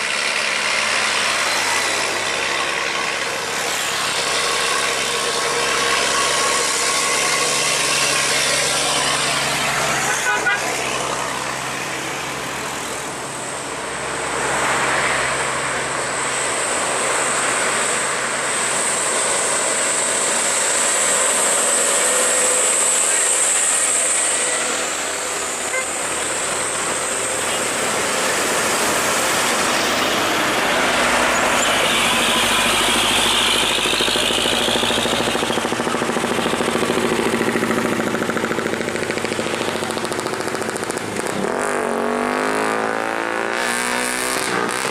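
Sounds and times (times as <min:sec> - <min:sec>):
motorcycles passing: 0:00.0 - 0:44.9
trucks passing: 0:00.0 - 0:44.9
tyres on road: 0:00.0 - 0:44.9.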